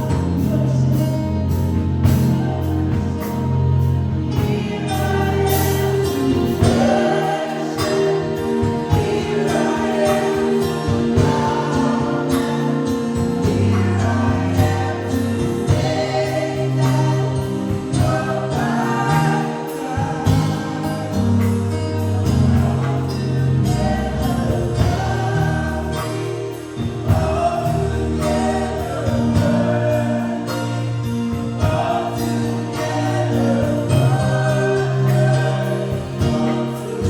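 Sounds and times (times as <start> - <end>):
band with bass keyboard and drums: 0.0 - 37.0
voices singing together: 0.0 - 37.0.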